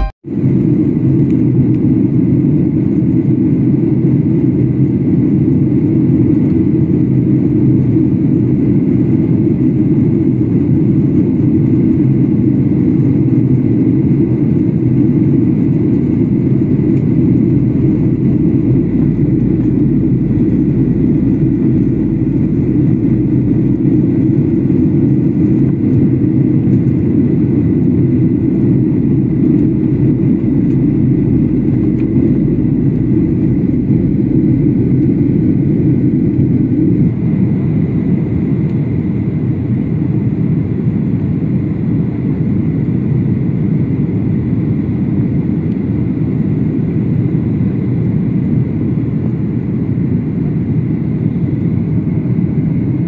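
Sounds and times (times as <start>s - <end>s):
airliner cabin jet rush: 0.0s - 43.4s
faint high steady whine: 8.1s - 53.0s.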